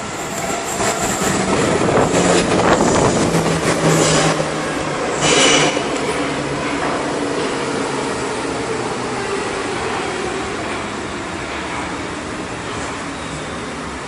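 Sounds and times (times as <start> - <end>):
underground train rolling: 0.0 - 14.0.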